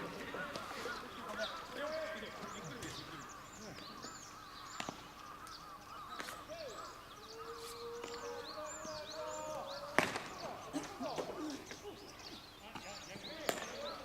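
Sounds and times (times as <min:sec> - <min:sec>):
bird calls: 0:00.0 - 0:14.0
distant voices: 0:00.0 - 0:14.0.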